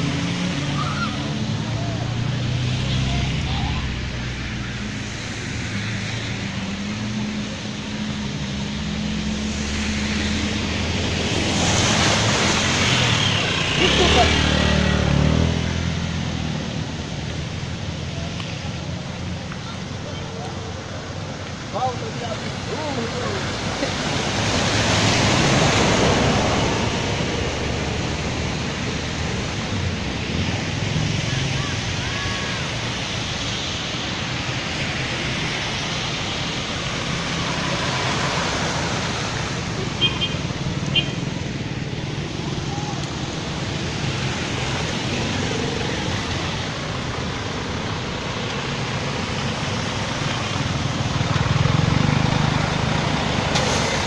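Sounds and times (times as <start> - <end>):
floodwater rushing: 0.0 - 54.0
vehicle engine humming: 0.0 - 54.0.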